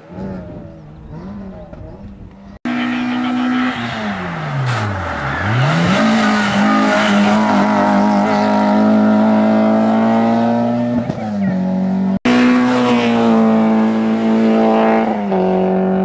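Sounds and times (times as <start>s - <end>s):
race car engine: 0.0s - 16.0s.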